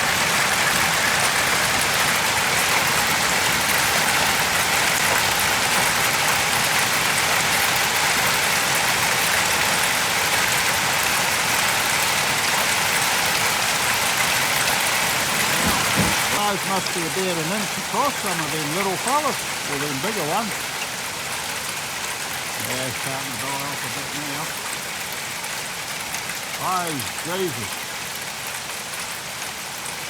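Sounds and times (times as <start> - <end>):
heavy rain and hail: 0.0 - 30.0.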